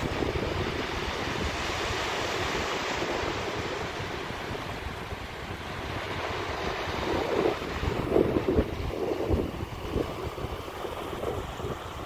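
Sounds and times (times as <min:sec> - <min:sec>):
small waves breaking on sand: 0:00.0 - 0:12.0
wind rumbling on microphone: 0:00.0 - 0:12.0.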